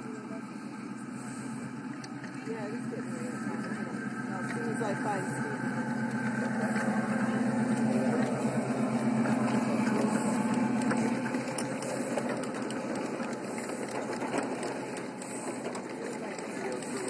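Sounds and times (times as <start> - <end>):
miniature train motor hum: 0.0 - 17.0
wheels clicking on track: 0.0 - 17.0.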